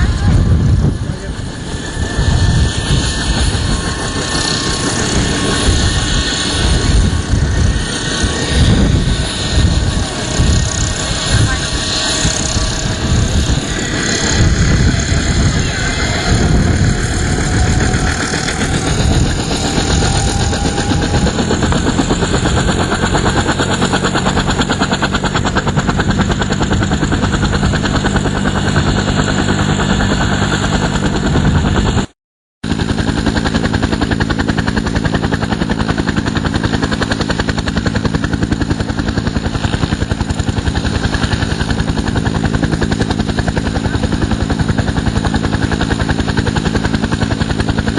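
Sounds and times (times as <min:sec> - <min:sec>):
helicopter engine whine: 0:00.0 - 0:47.9
helicopter rotor chopping: 0:00.0 - 0:47.9.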